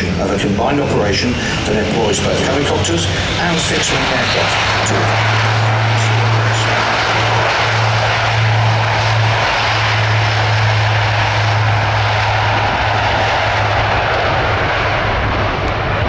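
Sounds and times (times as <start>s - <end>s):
turboprop engines running: 0.0s - 16.0s.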